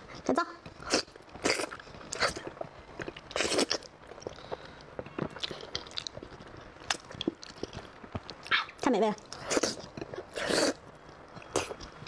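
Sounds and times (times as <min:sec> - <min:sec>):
chewing with wet smacks: 0:00.1 - 0:12.0.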